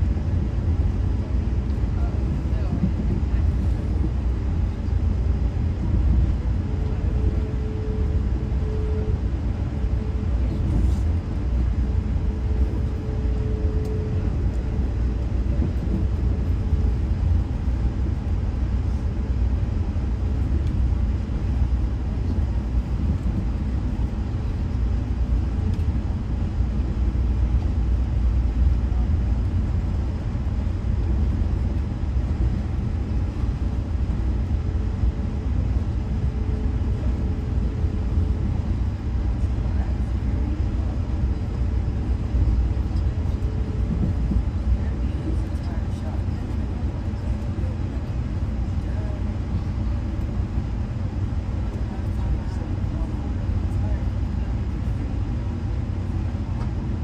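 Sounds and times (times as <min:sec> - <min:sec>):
train rumbling from on board: 0:00.0 - 0:57.0.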